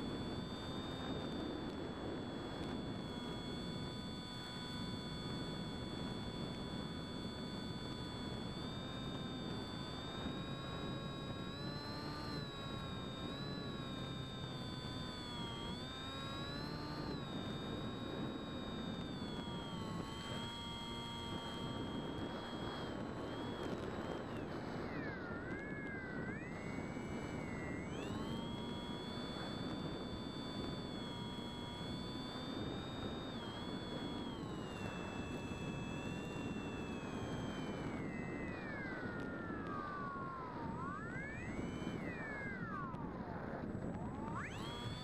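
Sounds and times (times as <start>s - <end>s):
electric motor and propeller whining: 0.0s - 45.0s.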